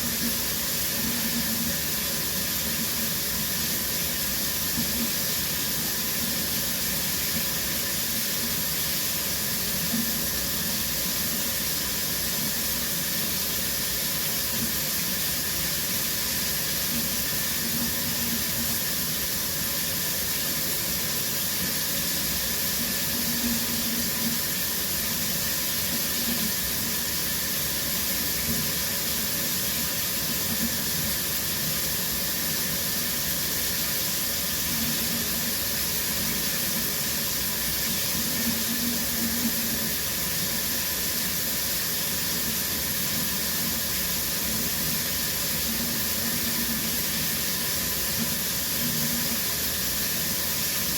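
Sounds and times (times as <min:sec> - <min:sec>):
shower water spraying: 0:00.0 - 0:50.9.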